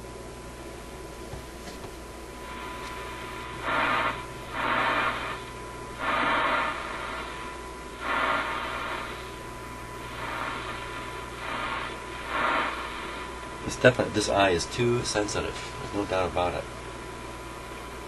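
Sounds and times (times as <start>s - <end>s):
low hum: 2.0s - 18.0s
radio static hissing: 2.2s - 18.0s.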